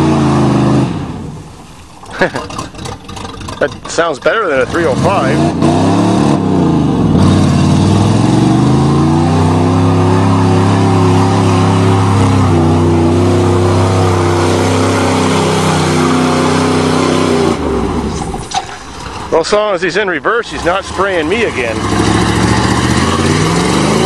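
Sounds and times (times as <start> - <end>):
truck churning through mud: 0.0 - 24.0
truck engine revving: 0.0 - 24.0.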